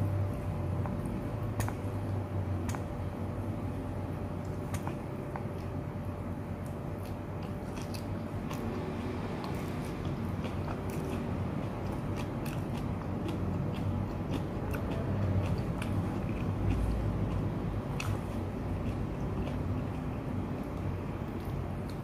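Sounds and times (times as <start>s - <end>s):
chewing crunchy vegetables: 0.0s - 2.9s, 3.7s - 22.0s.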